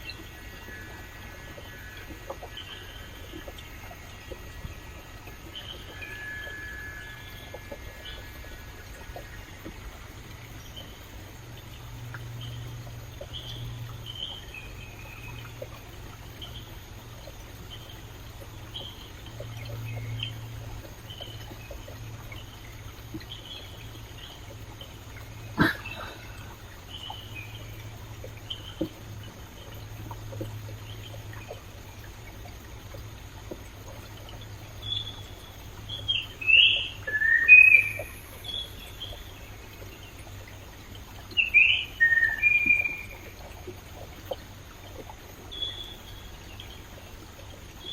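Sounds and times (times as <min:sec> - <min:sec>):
flowing stream: 0:00.0 - 0:47.9.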